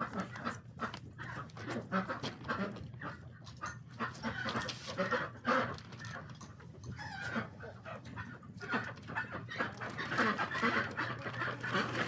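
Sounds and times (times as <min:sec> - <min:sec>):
farm animals making short sounds: 0:00.0 - 0:06.3, 0:06.9 - 0:12.0.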